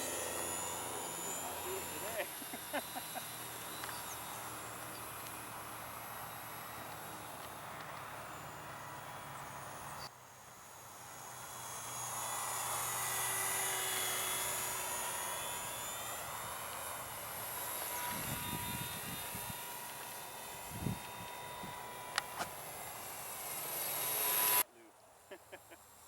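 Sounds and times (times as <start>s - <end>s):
model plane motor whining: 0.0s - 24.7s.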